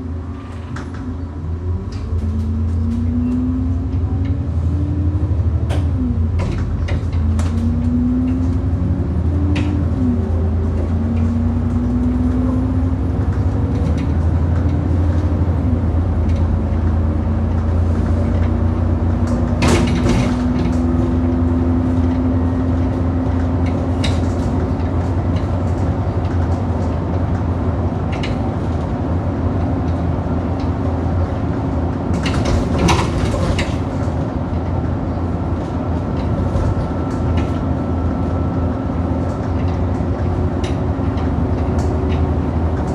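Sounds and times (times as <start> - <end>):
bus engine humming with whine: 0.0 - 42.9
bus knocking over potholes: 1.8 - 42.9.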